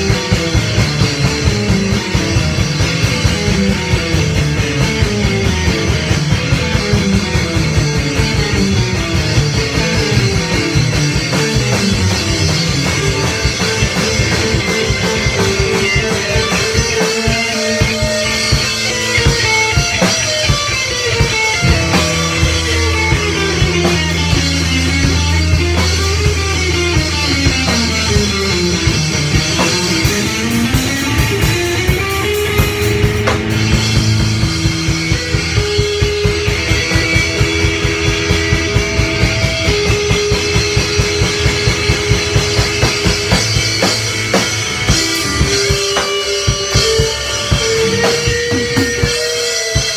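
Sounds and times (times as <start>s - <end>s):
drum kit: 0.0s - 49.9s
electric guitars: 0.0s - 49.9s.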